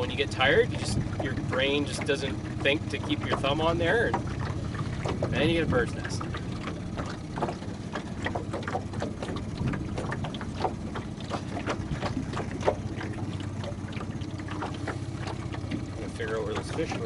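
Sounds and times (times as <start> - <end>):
boat motor humming: 0.0 - 17.0
water lapping against hull: 0.0 - 17.0.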